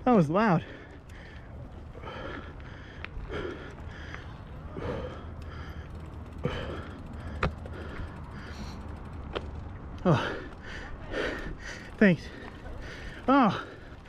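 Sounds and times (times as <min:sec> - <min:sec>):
heavy gasping breathing: 0:00.6 - 0:08.9, 0:10.0 - 0:14.0.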